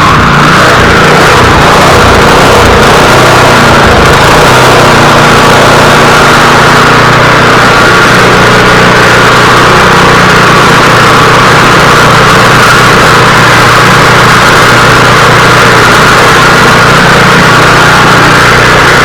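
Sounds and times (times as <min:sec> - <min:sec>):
snow thrower engine running: 0:00.0 - 0:19.0.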